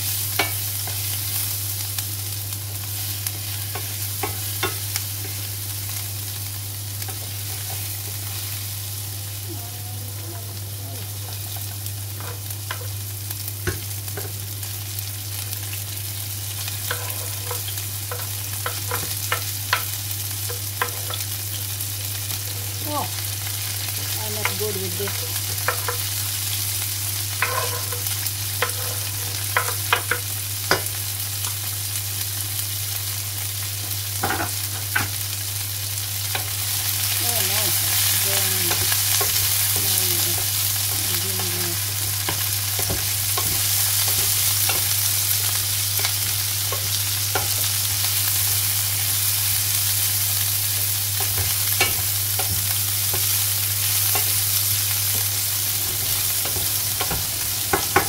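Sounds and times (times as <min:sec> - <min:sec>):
vegetables sizzling in frying pan: 0:00.0 - 0:58.0.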